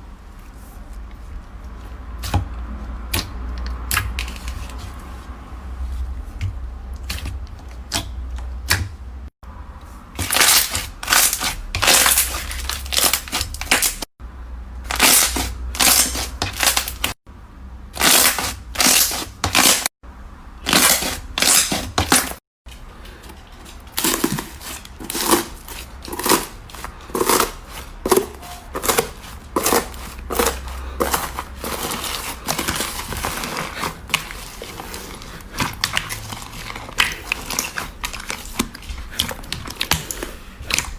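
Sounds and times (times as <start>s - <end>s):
slime squelching: 0.4s - 14.1s, 14.8s - 17.2s, 17.9s - 19.9s, 20.6s - 40.9s.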